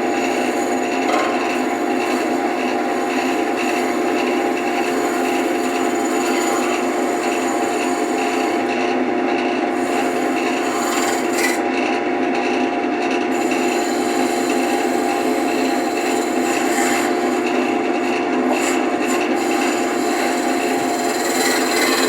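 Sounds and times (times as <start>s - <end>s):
tool scraping spinning wood: 0.0s - 11.9s, 13.3s - 22.0s
lathe motor hum: 0.0s - 22.0s.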